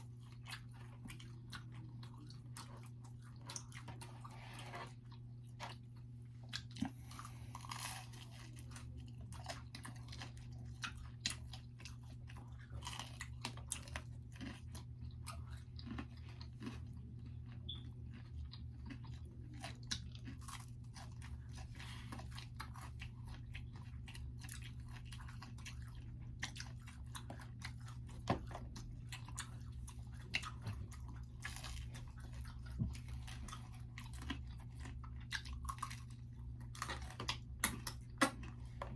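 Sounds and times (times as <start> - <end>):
chewing pizza: 0.0 - 38.9
steady low hum: 0.0 - 38.9.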